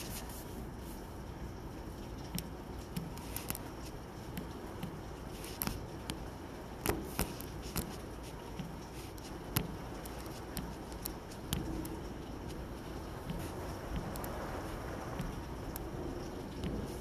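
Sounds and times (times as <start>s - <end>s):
heavy rain falling: 0.0s - 17.0s
raindrops tapping near microphone: 0.0s - 17.0s.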